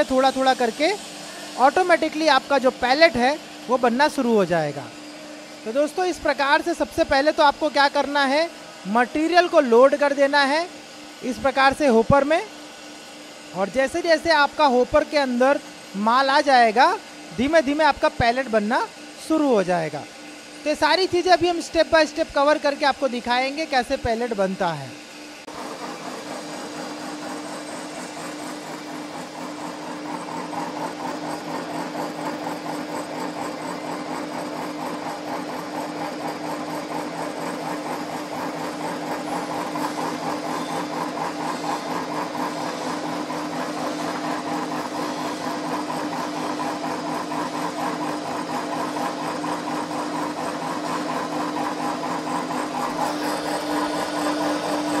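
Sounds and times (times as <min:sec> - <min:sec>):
pellet mill humming and chattering: 0:00.0 - 0:55.0.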